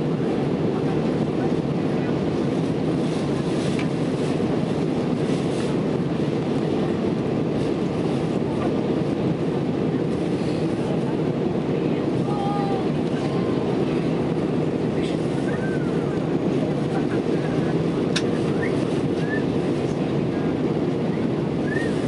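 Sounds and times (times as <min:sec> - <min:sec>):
jet airliner cabin noise: 0:00.0 - 0:22.0.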